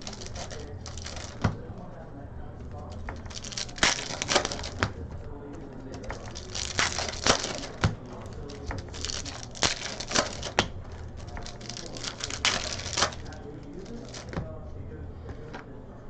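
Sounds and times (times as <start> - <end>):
cards snapping and clicking: 0.0 - 1.9, 2.7 - 14.5
foil wrappers crinkling and tearing: 0.0 - 2.0, 2.7 - 14.5.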